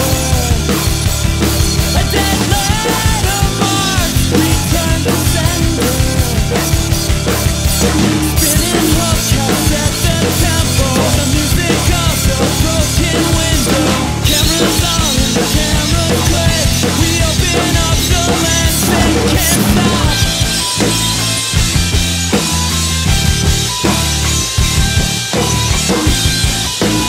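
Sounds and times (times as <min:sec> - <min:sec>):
drum kit playing: 0:00.0 - 0:27.0
rock song with singing: 0:00.0 - 0:27.0.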